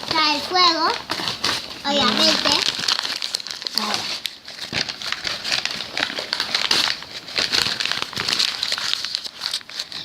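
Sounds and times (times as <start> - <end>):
paper crumpling: 0.0 - 10.0.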